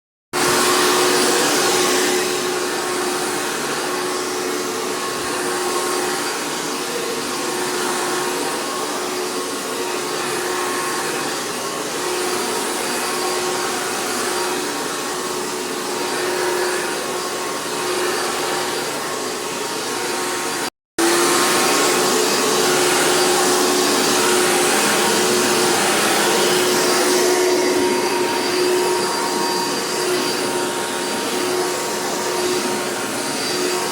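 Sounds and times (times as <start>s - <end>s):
vacuum cleaner running: 0.3s - 33.9s.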